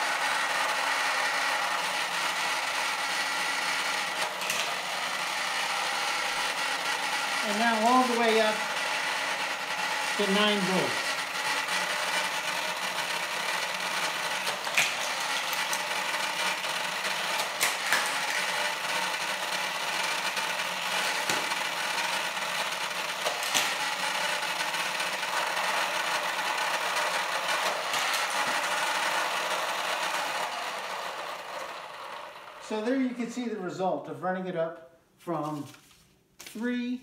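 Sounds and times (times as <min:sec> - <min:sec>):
toy cars clacking on plastic track: 0:00.0 - 0:32.7
toy track booster motor whirring: 0:00.0 - 0:33.6.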